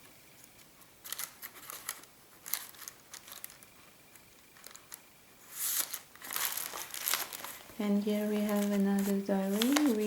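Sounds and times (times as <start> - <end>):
paper rustling and crinkling: 1.0 - 3.7, 4.6 - 10.0.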